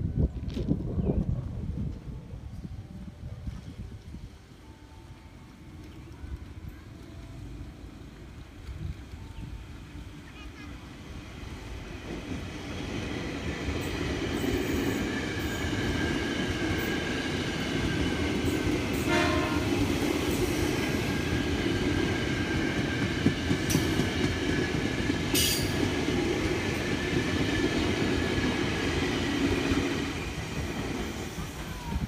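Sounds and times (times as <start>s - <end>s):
train wheels rumbling on rail: 5.4s - 32.0s.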